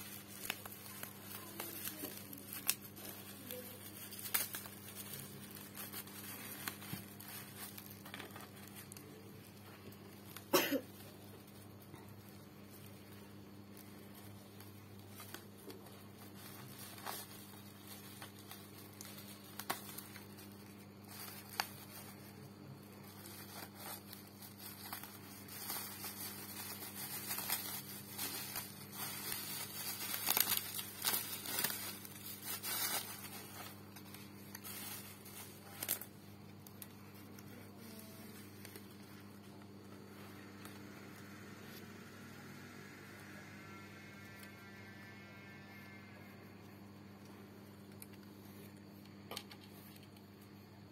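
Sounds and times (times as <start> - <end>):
bubble wrap crinkling: 0.0 - 50.9
low electrical hum: 0.0 - 50.9.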